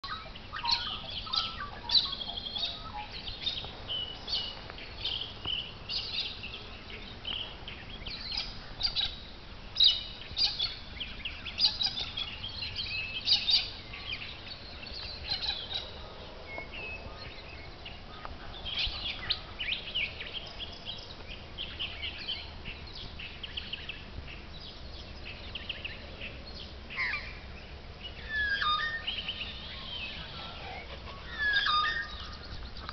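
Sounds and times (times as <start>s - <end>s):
birds chirping and whistling: 0.0s - 27.4s, 28.0s - 32.9s.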